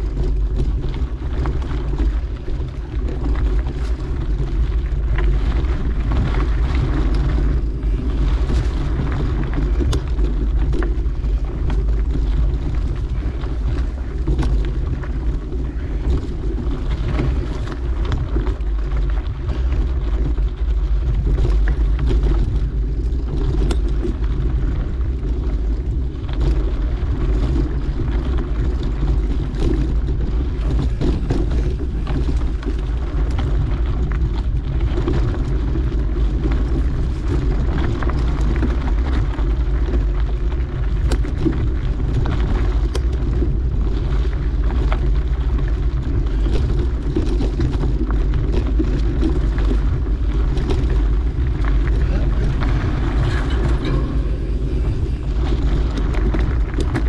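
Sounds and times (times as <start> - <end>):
bike clicking and rattling: 0.0 - 57.0
tyres rumbling on dirt: 0.0 - 57.0
wind on microphone: 0.0 - 57.0.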